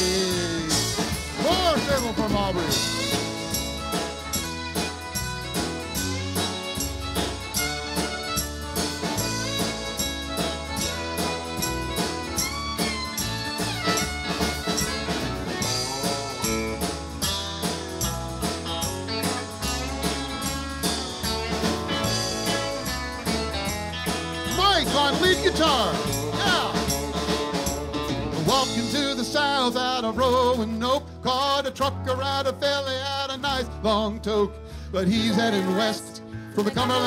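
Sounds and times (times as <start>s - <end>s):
fiddle solo with sliding notes: 0.0s - 18.4s, 19.1s - 29.1s, 35.2s - 37.0s
steady drum beat: 0.0s - 29.8s
strummed guitar: 0.0s - 32.5s, 35.1s - 37.0s
bass: 0.0s - 37.0s.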